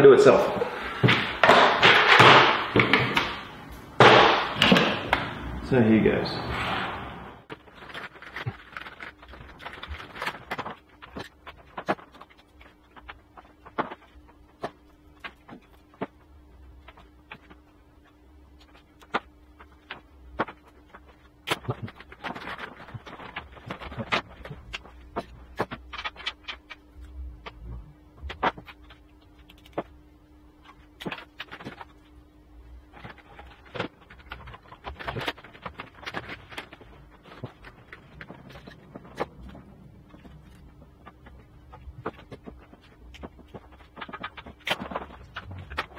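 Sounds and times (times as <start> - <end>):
faint steady hum: 0.0 - 45.9
hands handling cable and connectors: 7.5 - 30.0, 30.6 - 32.2, 32.9 - 45.9.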